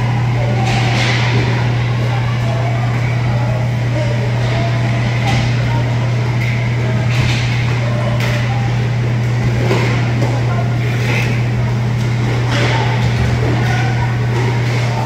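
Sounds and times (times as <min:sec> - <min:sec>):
loud steady low hum: 0:00.0 - 0:15.0.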